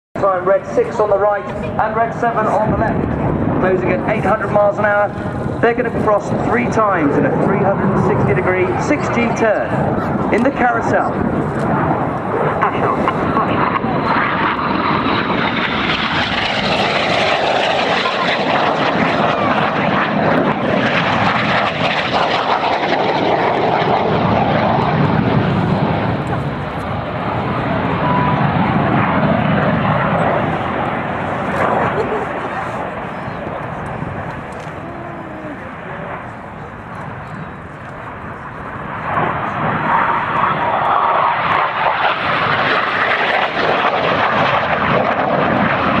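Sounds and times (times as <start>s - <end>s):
jet flying low pass: 0.2s - 46.0s.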